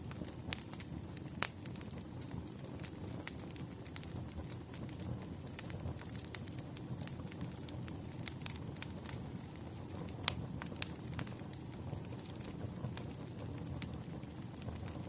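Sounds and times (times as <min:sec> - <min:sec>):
firewood crackling and popping: 0:00.0 - 0:15.0
flames hissing: 0:00.0 - 0:15.0.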